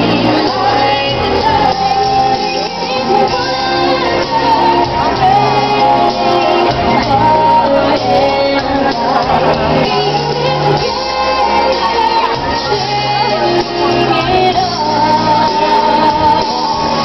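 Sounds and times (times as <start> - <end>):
loud music with singing: 0.0 - 17.0.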